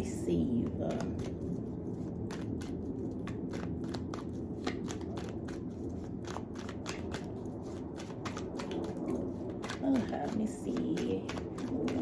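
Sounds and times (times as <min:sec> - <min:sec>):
steady low hum: 0:00.0 - 0:12.0
cards being shuffled: 0:00.6 - 0:12.0.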